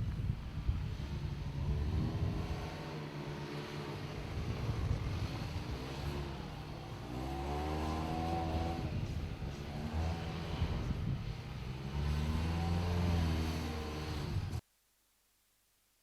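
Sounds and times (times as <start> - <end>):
car engine revving under load: 1.1 - 14.6.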